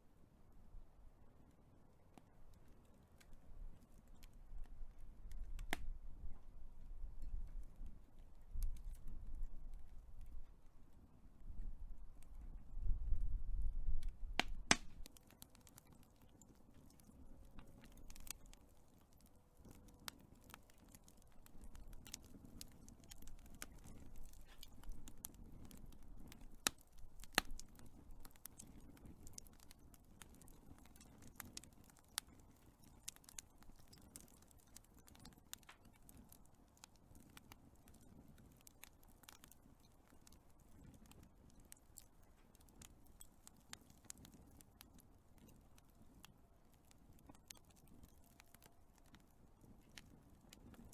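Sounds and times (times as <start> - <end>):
wood fire crackling and popping: 1.4 - 50.9.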